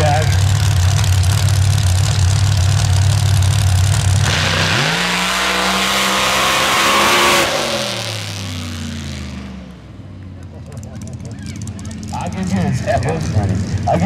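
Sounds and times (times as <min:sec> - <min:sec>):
drag car engine revving: 0:00.0 - 0:14.0.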